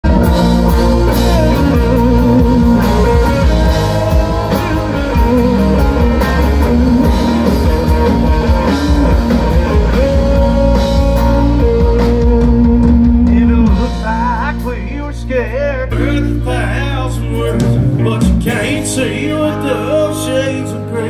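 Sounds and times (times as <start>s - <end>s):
drum kit beat: 0.0s - 19.6s
electric guitars: 0.0s - 21.0s.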